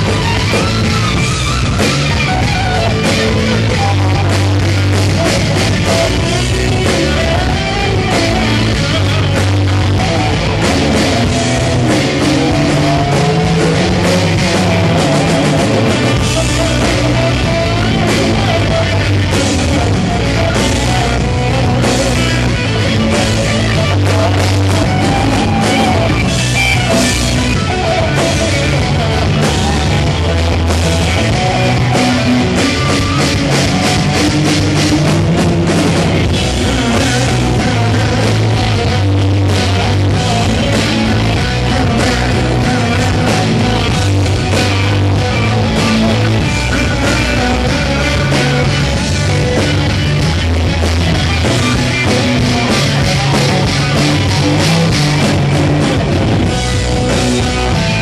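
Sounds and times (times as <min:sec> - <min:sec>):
lead electric guitar: 0:00.0 - 0:58.0
live hard rock band: 0:00.0 - 0:58.0.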